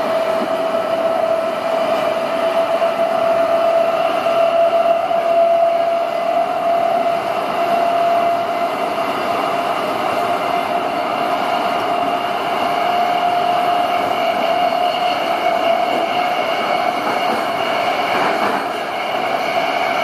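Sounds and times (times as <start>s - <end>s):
train rushing rumble: 0.0s - 20.0s.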